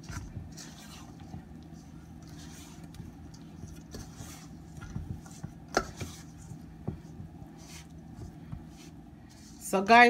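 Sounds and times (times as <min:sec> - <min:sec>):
spoon scraping dough in bowl: 0:00.0 - 0:09.7.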